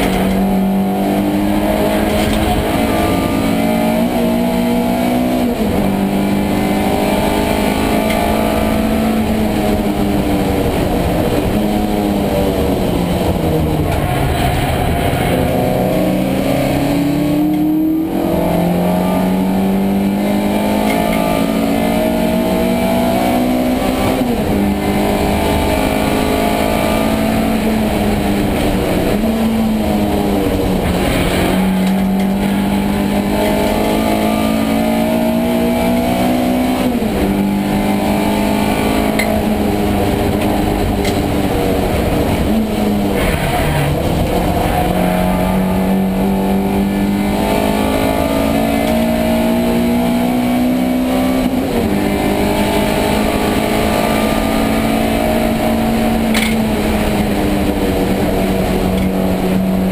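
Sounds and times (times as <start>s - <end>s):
race car engine shifting gears: 0.0s - 59.9s.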